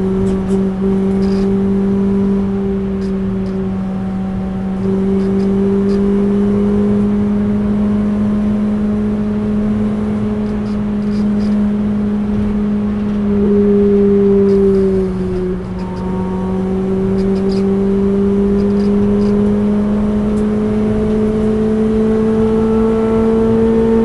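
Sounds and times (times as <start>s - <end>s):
car engine at high revs: 0.0s - 24.0s
tyre and road noise: 0.0s - 24.0s.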